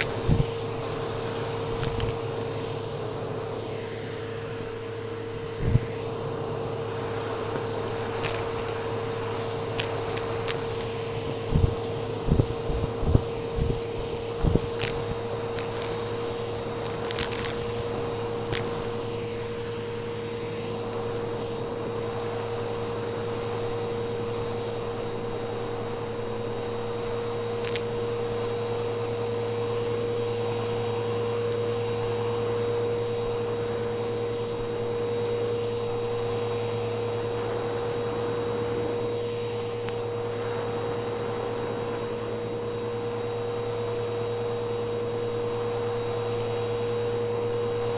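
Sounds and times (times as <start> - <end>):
vacuum cleaner whine: 0.0 - 47.9.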